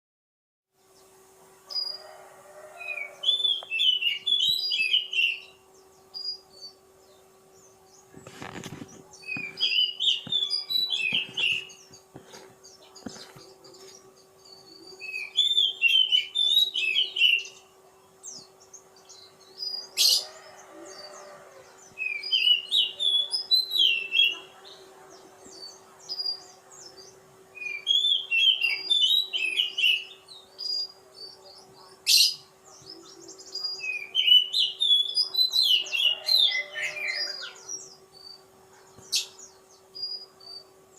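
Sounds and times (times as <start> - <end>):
steady low hum: 0.8 - 36.6, 37.3 - 40.9
bird singing rapid chirping phrases: 2.8 - 40.9.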